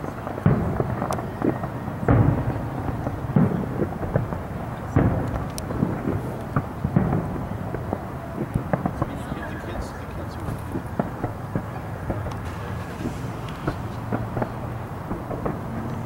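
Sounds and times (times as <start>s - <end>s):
fireworks booming: 0.0s - 16.0s
fireworks pops and crackles: 0.0s - 16.0s.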